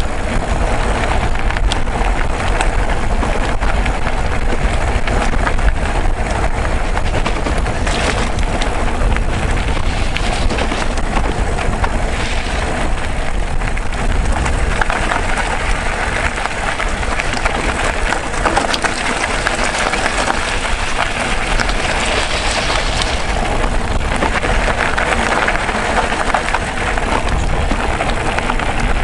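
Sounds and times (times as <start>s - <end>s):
bike tyres on gravel: 0.0s - 29.0s
rattling clicks from bike and stones: 0.0s - 29.0s
wind buffeting microphone: 0.0s - 29.0s.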